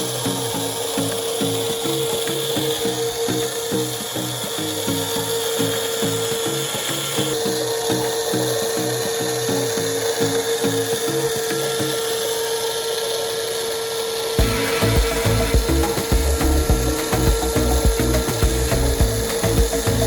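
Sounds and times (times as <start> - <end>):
rapid ratcheting clatter: 0.0 - 20.0
toy electric motor whine: 0.0 - 20.0.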